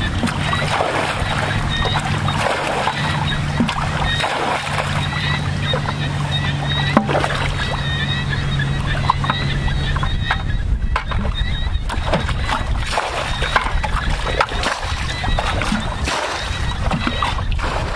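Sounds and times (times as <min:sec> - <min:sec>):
hoe hacking mud: 0:00.0 - 0:07.7, 0:11.0 - 0:17.9
muddy water splashing: 0:00.0 - 0:17.9
steady low hum: 0:00.0 - 0:17.9.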